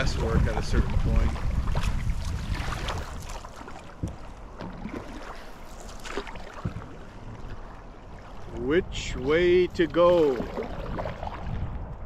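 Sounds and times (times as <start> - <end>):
water lapping against canoe hull: 0.0 - 12.0
wind on microphone: 0.0 - 12.0.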